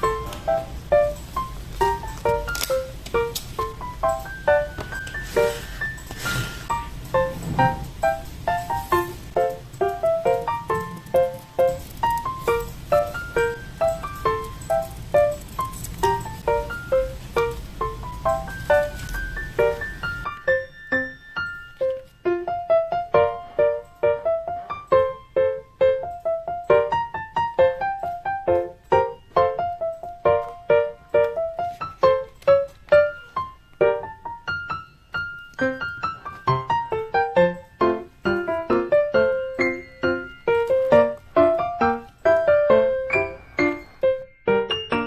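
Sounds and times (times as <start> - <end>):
light piano melody: 0.0 - 45.0.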